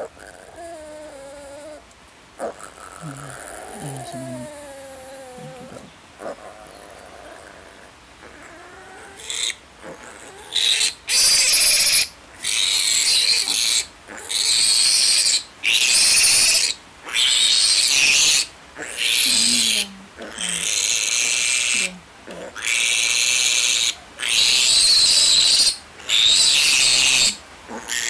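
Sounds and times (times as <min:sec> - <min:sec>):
piglet squealing: 0:02.4 - 0:28.0.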